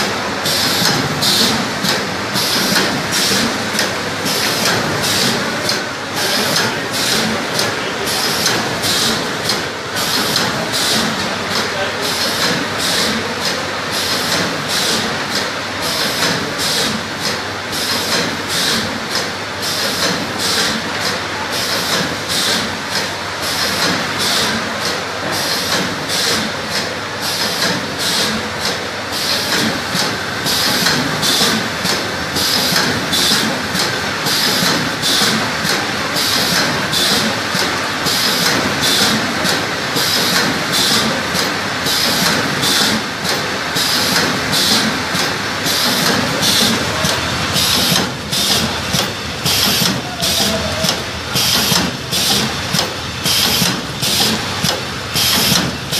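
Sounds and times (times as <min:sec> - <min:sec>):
cutting machine running rhythmically: 0:00.0 - 0:55.9.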